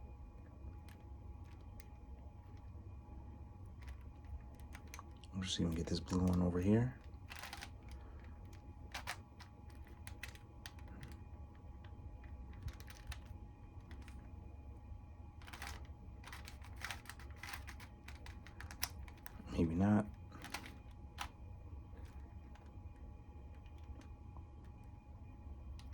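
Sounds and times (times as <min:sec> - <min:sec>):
faint steady hum: 0:00.0 - 0:25.9.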